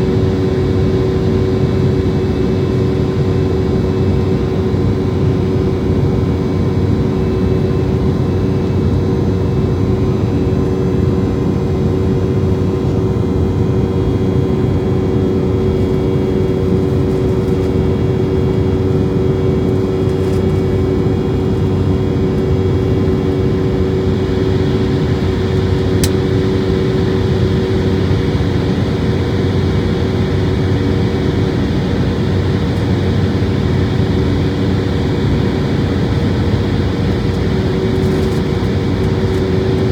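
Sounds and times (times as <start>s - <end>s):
jet engine hum in cabin: 0.0s - 39.9s.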